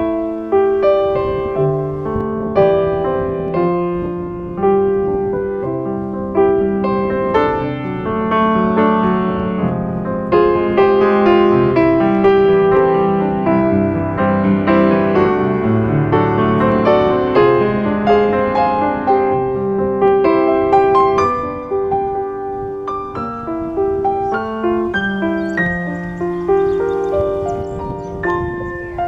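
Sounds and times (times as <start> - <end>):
slow piano piece: 0.0 - 29.0.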